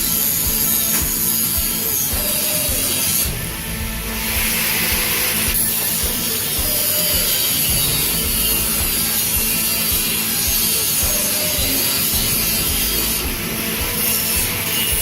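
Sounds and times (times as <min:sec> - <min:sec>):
hacksaw cutting steel pipe: 0:00.0 - 0:15.0.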